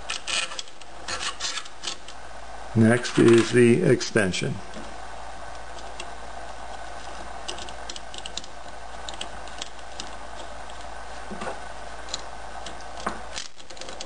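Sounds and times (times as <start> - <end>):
steady hiss: 0.9 - 13.5.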